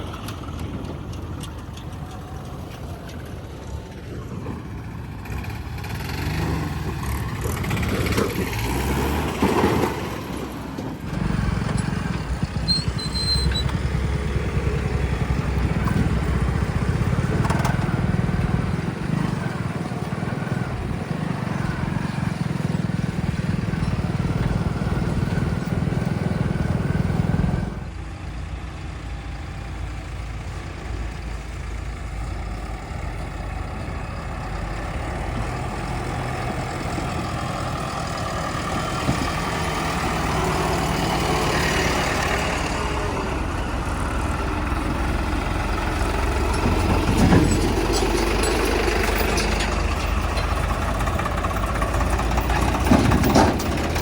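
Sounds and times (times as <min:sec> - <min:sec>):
heavy vehicle diesel engine: 0:00.0 - 0:54.0.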